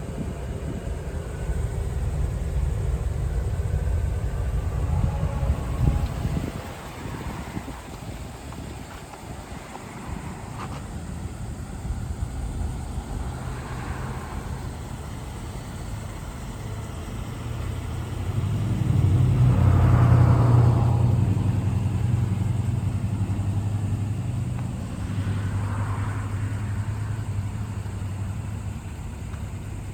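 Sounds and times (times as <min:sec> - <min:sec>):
truck engine running: 0:00.0 - 0:29.9.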